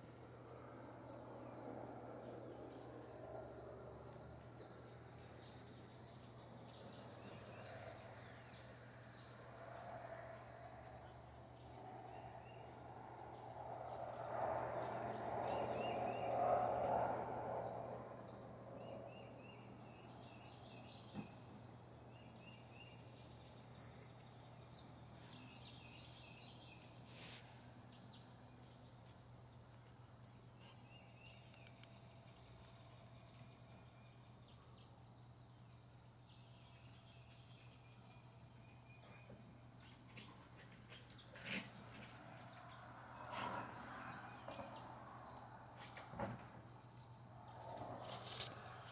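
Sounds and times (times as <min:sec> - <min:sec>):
small birds chirping: 0:00.0 - 0:17.0, 0:17.6 - 0:48.9.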